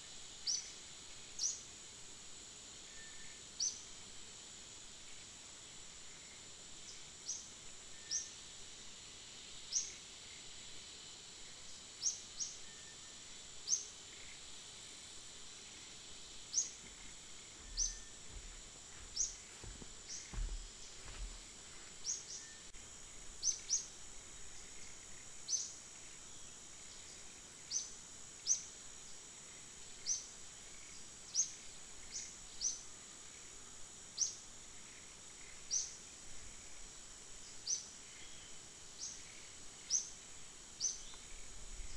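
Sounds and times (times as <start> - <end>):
high-pitched insect drone: 2.5 - 41.9.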